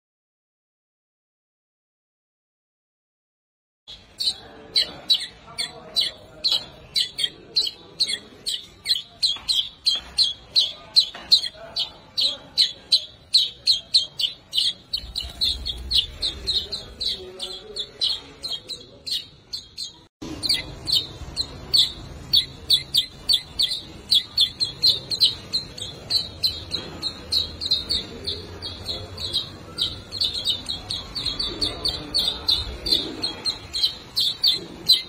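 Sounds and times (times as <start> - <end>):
bird chirping high and fast: 3.9 - 35.0.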